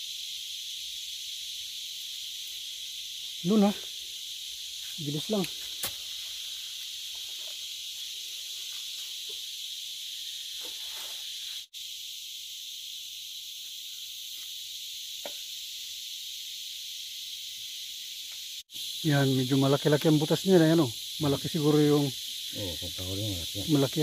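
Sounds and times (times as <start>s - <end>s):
insect chorus drone: 0.0s - 24.0s.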